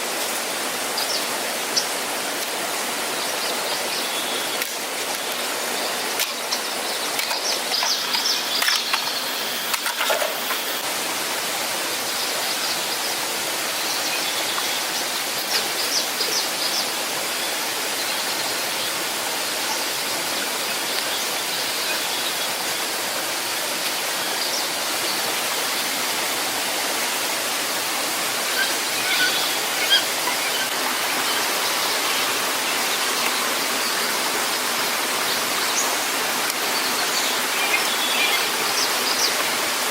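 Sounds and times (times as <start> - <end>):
rushing falling water: 0.0 - 39.9.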